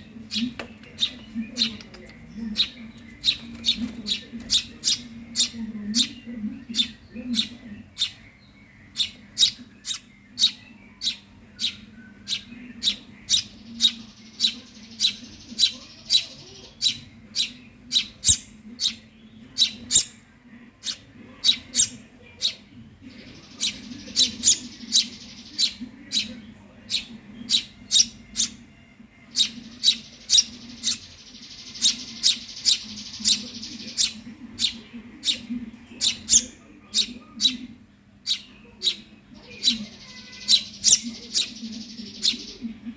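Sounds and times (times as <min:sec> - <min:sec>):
faint low hum: 0:00.0 - 0:42.9
fizzing begging chatter: 0:00.0 - 0:42.9
young sparrows chirping: 0:00.0 - 0:42.9.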